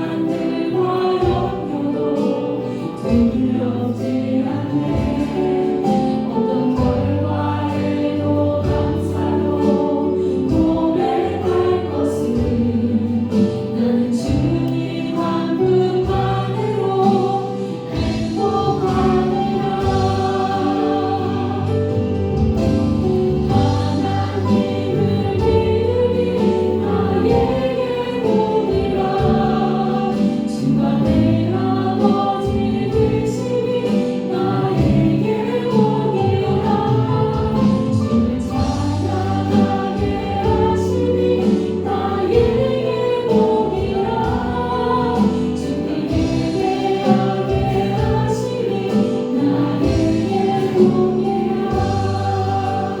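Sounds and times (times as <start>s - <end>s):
praise band playing: 0.0s - 53.0s
singers singing melody: 0.0s - 53.0s.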